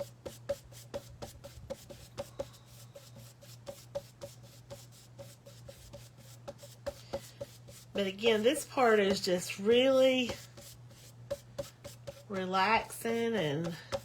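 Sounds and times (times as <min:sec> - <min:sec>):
paintbrush tapping on canvas: 0:00.5 - 0:09.4, 0:10.2 - 0:14.0.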